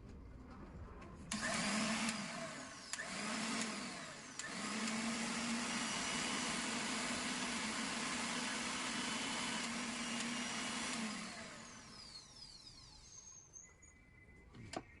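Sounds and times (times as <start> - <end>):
mixer grinder motor whine: 1.3 - 13.4.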